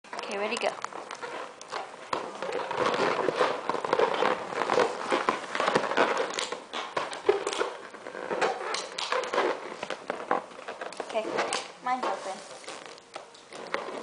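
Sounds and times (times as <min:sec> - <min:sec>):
rubber balloons crackling and squeaking: 0:00.0 - 0:14.0.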